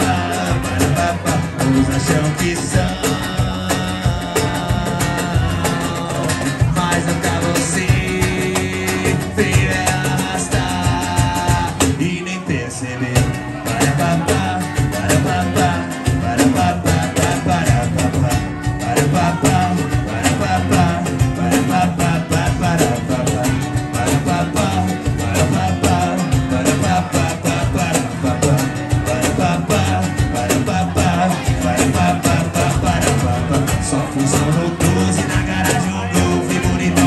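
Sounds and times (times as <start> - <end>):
cajon beat: 0.0 - 37.0
electric bass: 0.0 - 37.0
men singing: 0.0 - 37.0
strummed acoustic guitar: 0.0 - 37.0.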